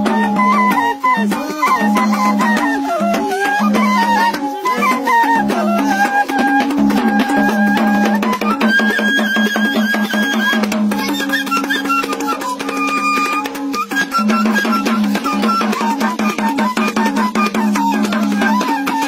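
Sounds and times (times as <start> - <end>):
bamboo flute melody: 0.0 - 19.0
hand drum strokes: 0.0 - 19.0.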